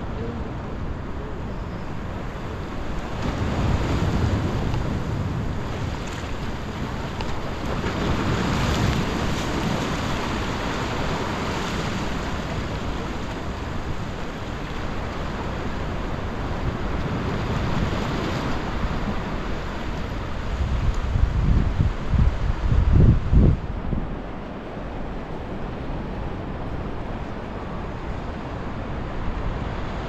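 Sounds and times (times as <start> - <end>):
surf washing on rocks: 0.0 - 30.0
wind buffeting microphone: 0.0 - 30.0.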